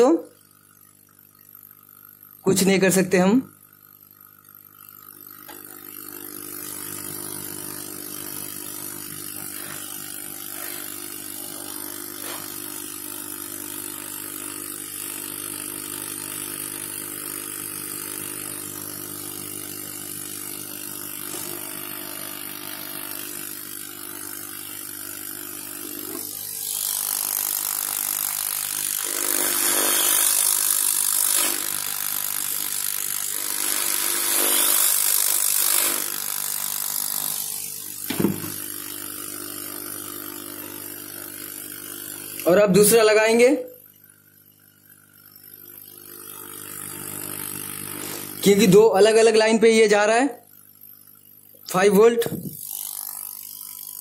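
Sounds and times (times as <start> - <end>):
hot-air gun blower running: 0.0 - 54.0.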